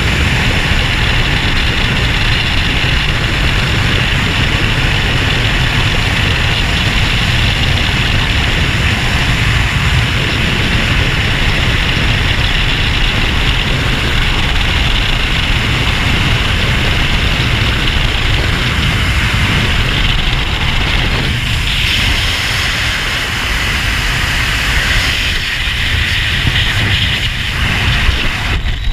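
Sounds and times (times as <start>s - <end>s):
freefall wind buffeting: 0.0s - 28.9s.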